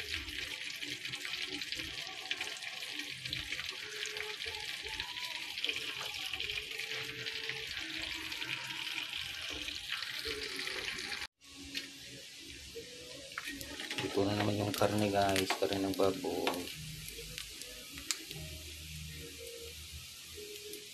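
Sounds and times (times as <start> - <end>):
meat deep-frying in hot oil: 0.0 - 20.9.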